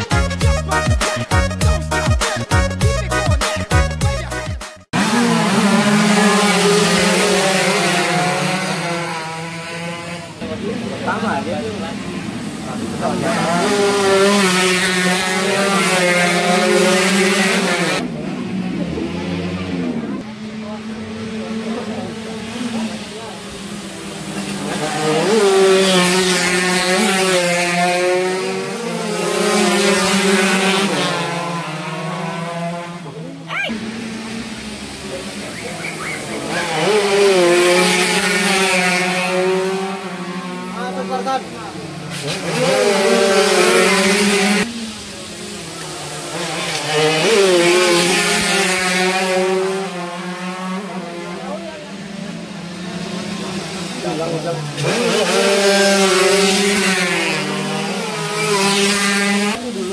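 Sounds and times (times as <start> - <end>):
race motorcycles passing: 4.2 - 59.9.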